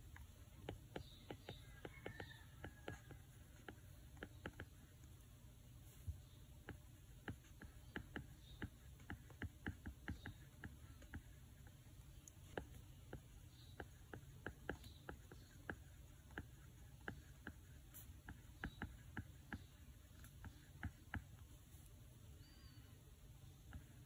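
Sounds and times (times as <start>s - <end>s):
faint keyboard typing: 0.0s - 5.2s, 6.0s - 21.9s, 23.4s - 24.0s.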